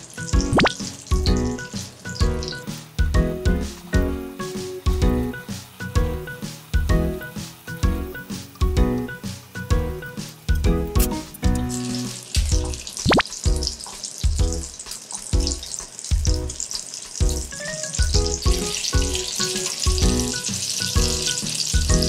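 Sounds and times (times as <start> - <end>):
food sizzling in hot oil: 0.0 - 22.0
music with steady beat: 0.0 - 22.0.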